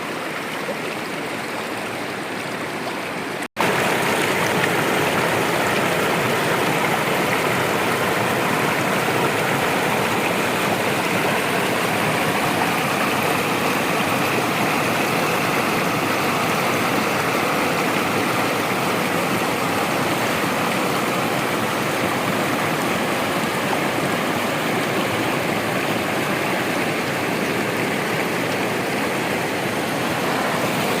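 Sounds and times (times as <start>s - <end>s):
waterfall and stream rushing: 0.0s - 31.0s.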